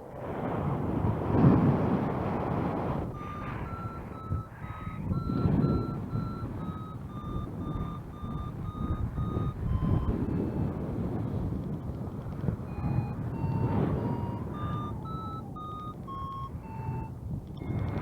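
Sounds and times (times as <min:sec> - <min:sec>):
wind rushing over microphone: 0:00.0 - 0:18.0
variometer beeping: 0:02.6 - 0:18.0.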